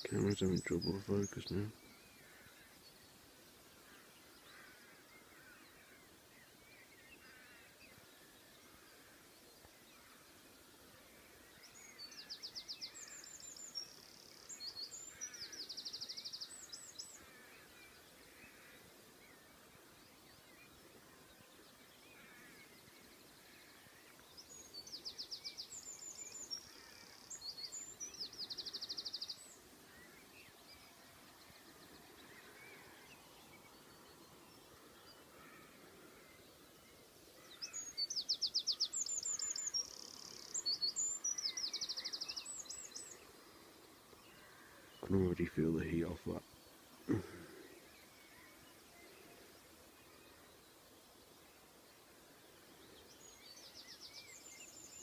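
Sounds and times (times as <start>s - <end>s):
songbird trilling song: 0.0s - 3.2s, 11.2s - 35.4s, 36.0s - 51.5s, 52.1s - 55.0s
faint birds chirping: 0.0s - 55.0s.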